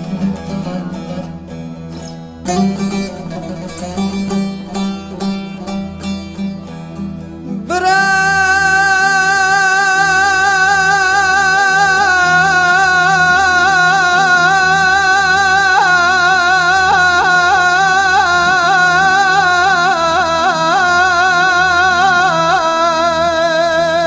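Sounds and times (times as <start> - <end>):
plucked string notes: 0.0 - 24.0.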